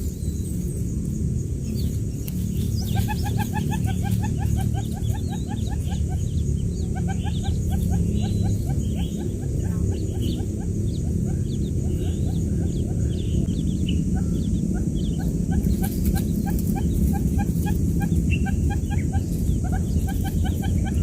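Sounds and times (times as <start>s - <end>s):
low rumble: 0.0s - 21.0s
quail chicks peeping: 0.0s - 21.0s.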